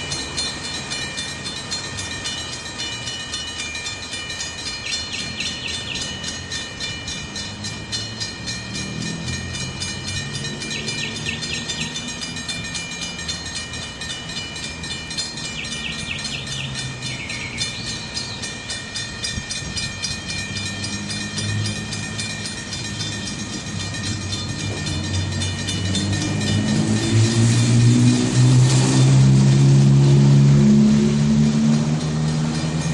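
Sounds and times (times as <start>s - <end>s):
diesel locomotive engine running: 0.0s - 32.9s
thin steady high tones: 0.0s - 32.9s
train wheels clicking over rails: 0.0s - 32.9s.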